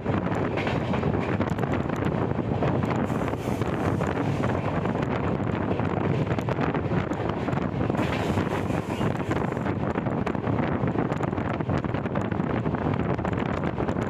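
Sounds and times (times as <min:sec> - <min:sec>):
train running on track: 0:00.0 - 0:14.0
wind buffeting microphone: 0:00.0 - 0:14.0.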